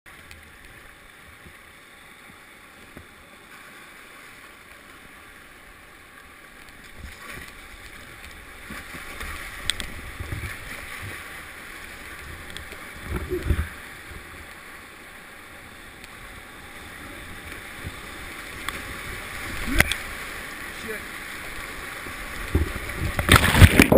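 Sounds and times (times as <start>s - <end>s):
river water rushing and splashing: 0.1s - 23.9s.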